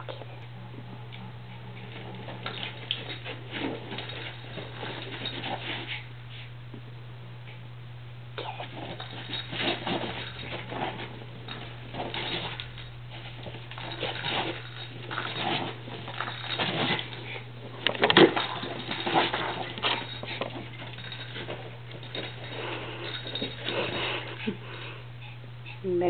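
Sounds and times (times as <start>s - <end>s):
dog paws scrambling on carpet: 0.7s - 6.8s, 8.6s - 26.0s.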